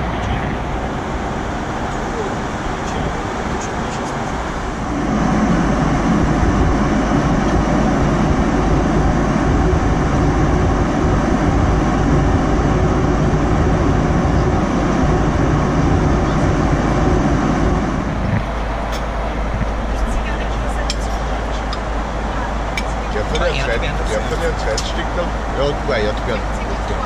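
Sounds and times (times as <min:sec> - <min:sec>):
jet engines and airflow roar: 0:00.0 - 0:27.0.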